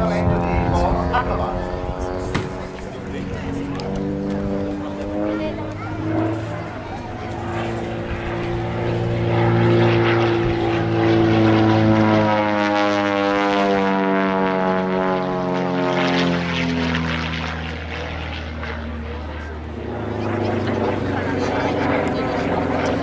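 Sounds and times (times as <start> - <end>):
propeller aircraft engine: 0.0 - 23.0.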